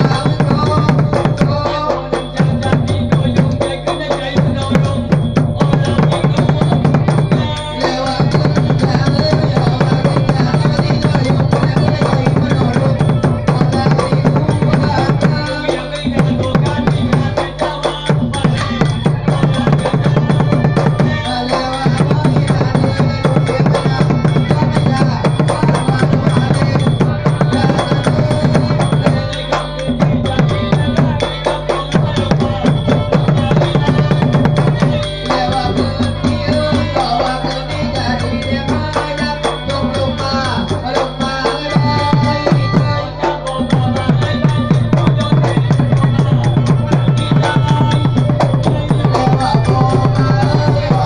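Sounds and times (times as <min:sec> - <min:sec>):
fast hand drum playing: 0:00.0 - 0:51.0.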